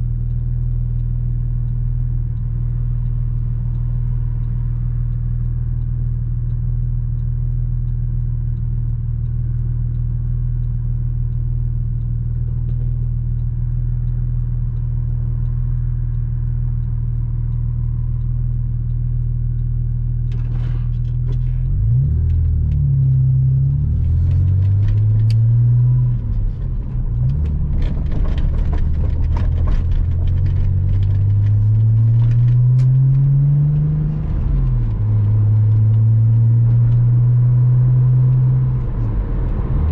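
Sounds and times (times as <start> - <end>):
light ticks and clatter: 0.0 - 37.0
car engine accelerating through gears: 0.0 - 39.9.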